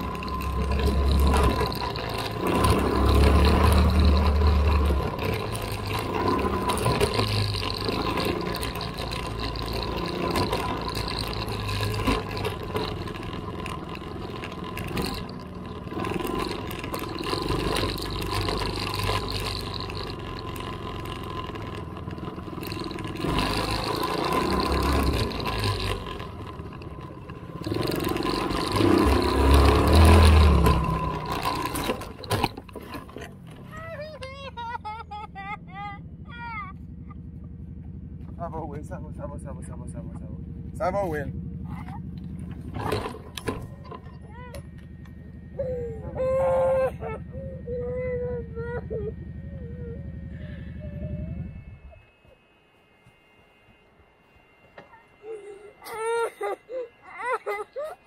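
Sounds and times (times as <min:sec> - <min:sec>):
off-road vehicle engine running: 0:00.0 - 0:57.8.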